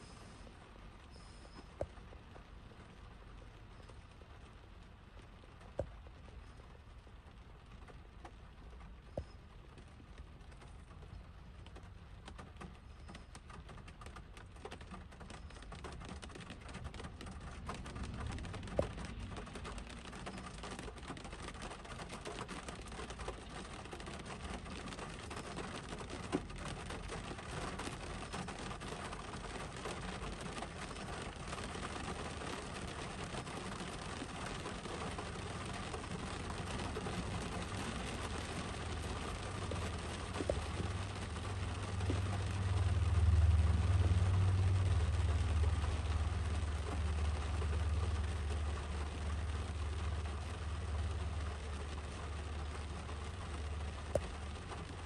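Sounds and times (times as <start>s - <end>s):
rain pattering on car roof: 0.0s - 55.0s.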